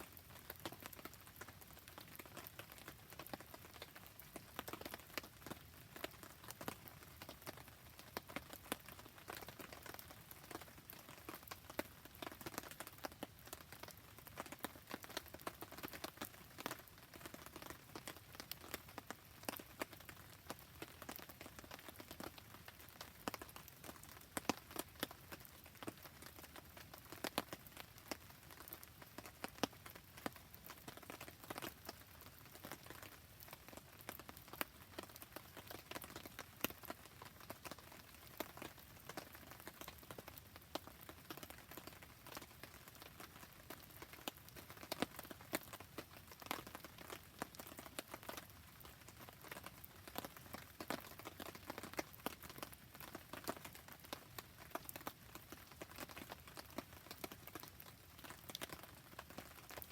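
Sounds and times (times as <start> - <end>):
campfire crackles: 0.0 - 59.9
steady rain falling: 0.0 - 59.9.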